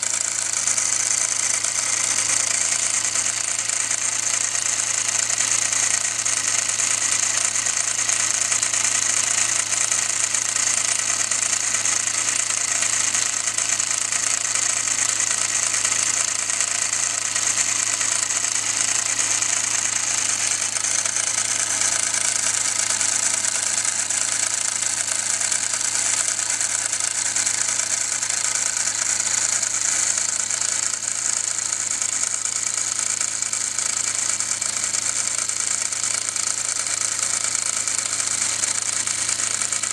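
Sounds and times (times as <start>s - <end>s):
toy steam engine chuffing: 0.0s - 39.9s.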